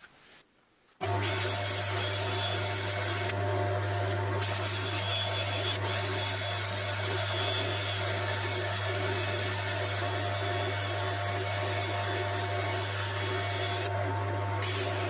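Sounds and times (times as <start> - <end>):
rotary sanding disc whirring: 1.0 - 15.0
wood lathe humming: 1.0 - 15.0.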